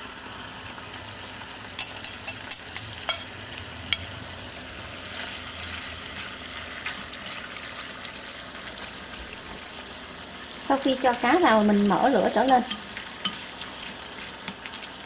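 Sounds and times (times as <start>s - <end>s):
fish sizzling in a clay pot: 0.0s - 15.0s.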